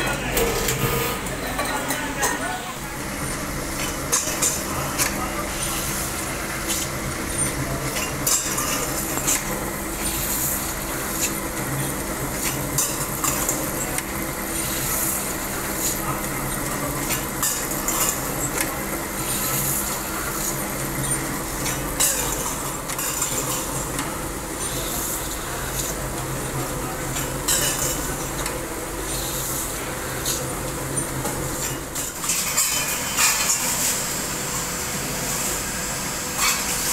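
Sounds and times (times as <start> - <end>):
machines humming: 0.0 - 36.9.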